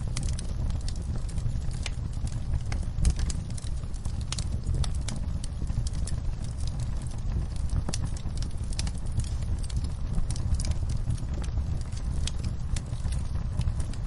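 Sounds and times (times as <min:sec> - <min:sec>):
fire crackling and popping: 0:00.0 - 0:14.0
low rumble: 0:00.0 - 0:14.0.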